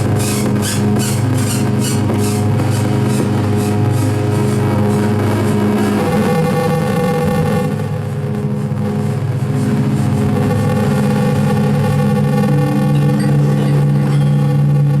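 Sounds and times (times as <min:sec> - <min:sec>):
loud low drone: 0:00.0 - 0:15.0
rhythmic high noise pulses: 0:00.0 - 0:15.0
steady buzzing tones: 0:00.0 - 0:15.0.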